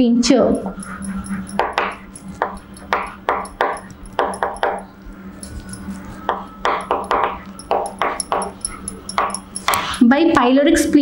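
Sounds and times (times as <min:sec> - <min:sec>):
steady low hum: 0:00.0 - 0:11.0
chalk scratching on blackboard: 0:00.6 - 0:09.8.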